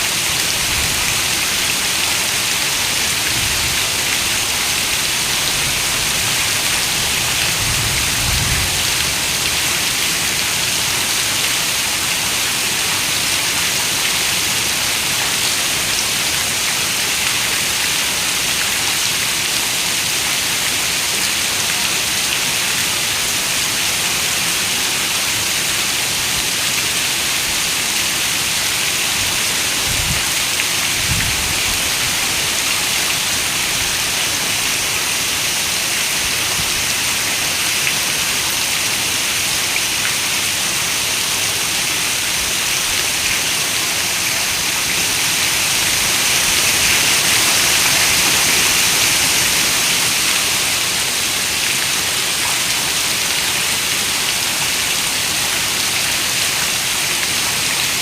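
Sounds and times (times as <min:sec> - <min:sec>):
heavy rain on a window: 0:00.1 - 0:58.0.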